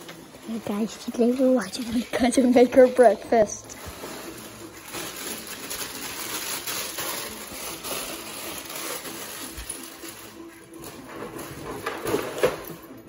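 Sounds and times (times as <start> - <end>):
kitchen items rustling and clinking: 0.0 - 13.0.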